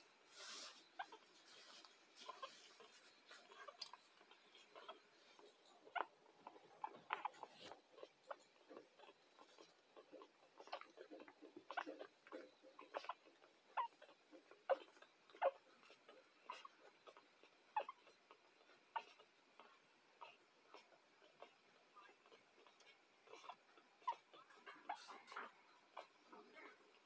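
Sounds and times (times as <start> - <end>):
puppies suckling clicks and smacks: 1.0 - 27.0.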